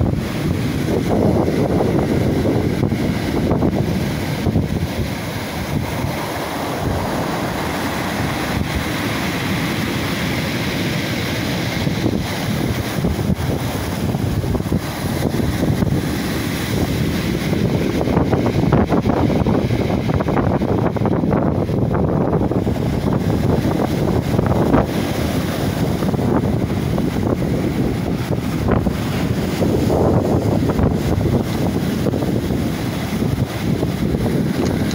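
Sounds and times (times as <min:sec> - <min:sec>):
surf breaking on pebble shore: 0:00.0 - 0:34.9
wind buffeting microphone: 0:00.0 - 0:34.9.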